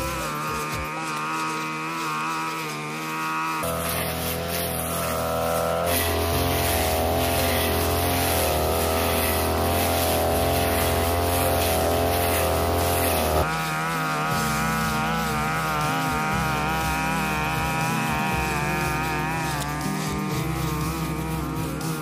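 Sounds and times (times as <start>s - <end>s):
brush cutter engine cutting grass: 0.0s - 22.0s.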